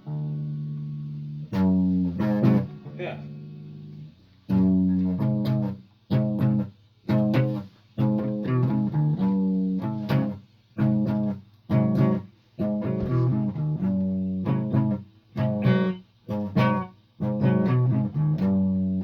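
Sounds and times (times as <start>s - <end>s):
guitar played slowly: 0.0s - 19.0s.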